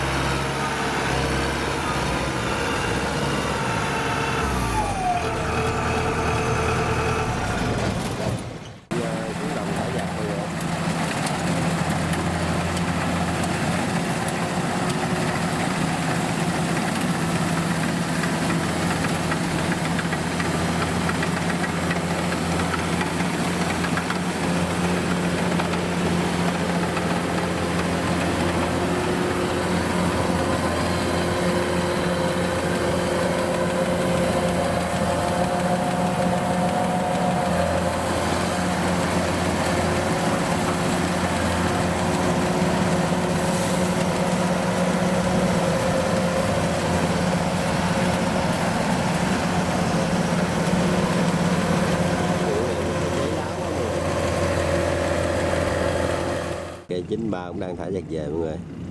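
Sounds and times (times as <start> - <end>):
large engine running steadily: 0.0 - 58.9.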